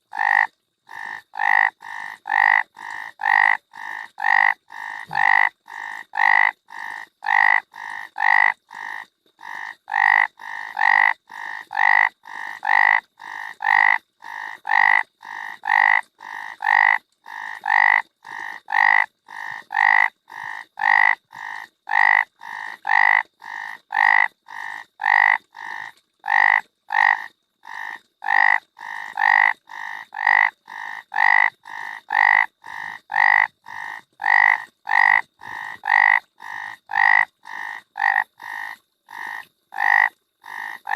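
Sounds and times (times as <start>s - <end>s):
frog croaking: 0.0s - 40.9s.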